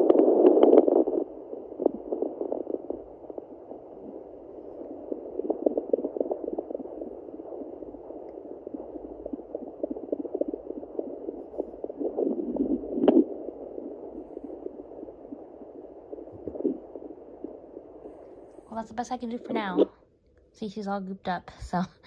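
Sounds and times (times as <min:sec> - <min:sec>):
whooshing heartbeat from doppler: 0:00.0 - 0:18.5.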